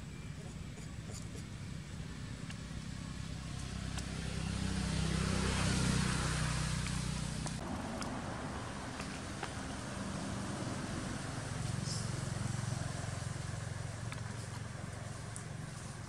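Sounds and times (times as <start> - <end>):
vehicle passing by: 2.2 - 16.0.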